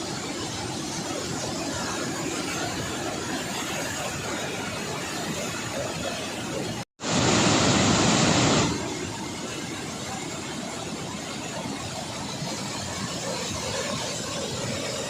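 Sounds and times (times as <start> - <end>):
water rushing from dam gates: 0.0 - 15.0.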